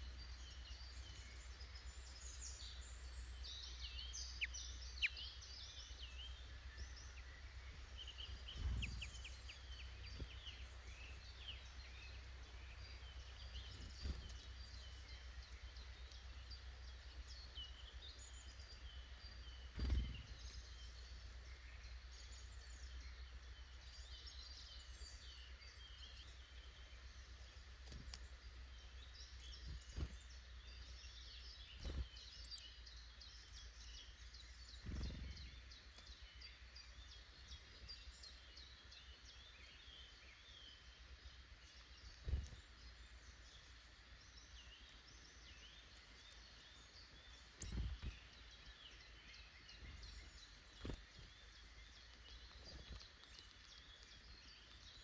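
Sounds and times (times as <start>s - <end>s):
faint low rumble: 0.0s - 55.0s
birds chirping and calling: 0.1s - 23.2s, 23.8s - 40.8s, 41.6s - 55.0s.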